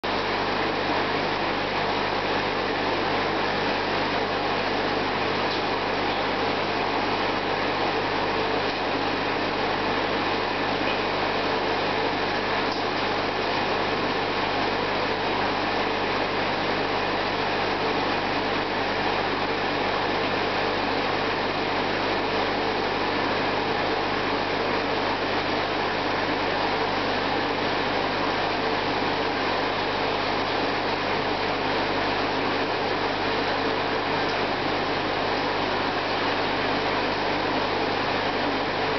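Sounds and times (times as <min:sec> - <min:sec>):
aquarium filter running: 0:00.0 - 0:38.9.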